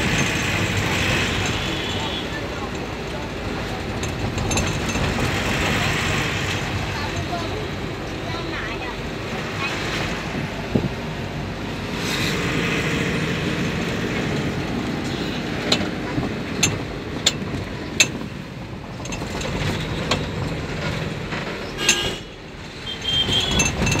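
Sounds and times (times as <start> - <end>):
sharp clicks and rattles: 0.0 - 9.6, 13.4 - 24.0
van engine and road rumble: 0.0 - 24.0.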